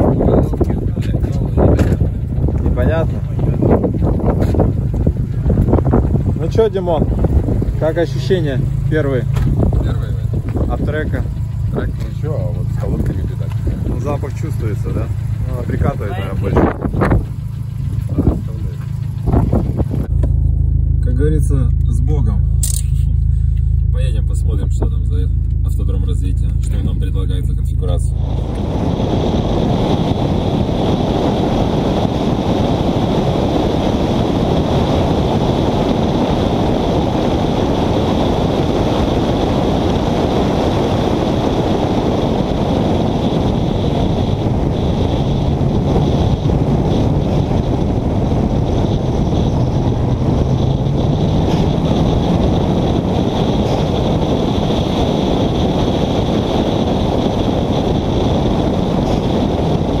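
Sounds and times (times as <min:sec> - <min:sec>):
car engine: 0:00.0 - 1:00.0
steady high whine: 0:00.0 - 1:00.0
wind blasting over camera: 0:00.0 - 1:00.0.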